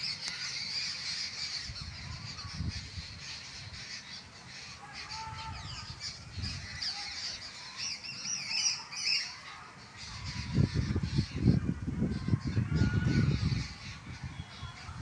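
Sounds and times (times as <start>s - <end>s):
birds calling and chattering: 0.0s - 15.0s.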